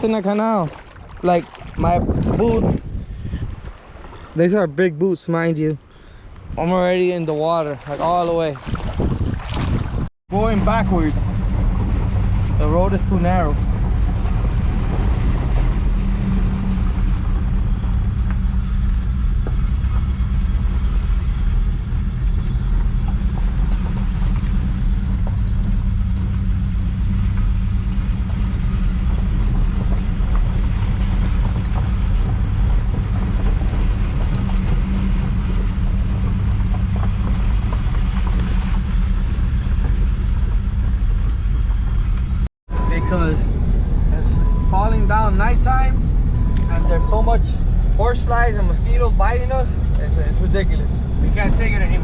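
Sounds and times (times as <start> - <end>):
truck engine low rumble: 0.0 - 9.2, 9.8 - 52.0.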